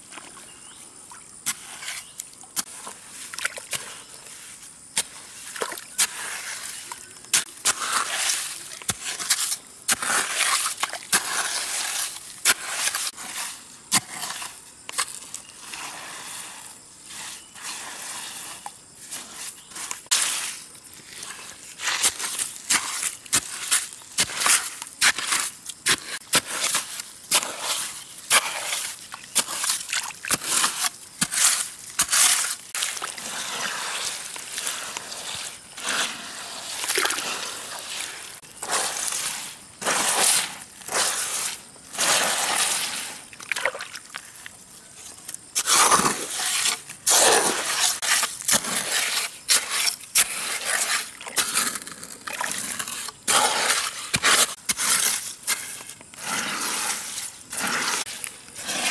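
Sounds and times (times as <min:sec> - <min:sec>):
water splashing and sloshing: 0:00.0 - 0:58.9.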